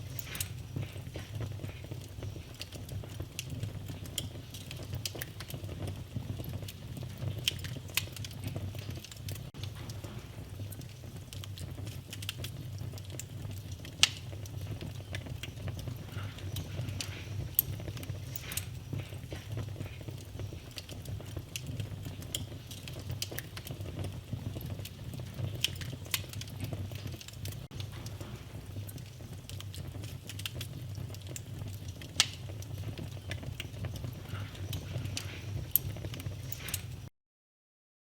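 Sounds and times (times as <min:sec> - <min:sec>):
wood fire crackling: 0:00.0 - 0:37.1.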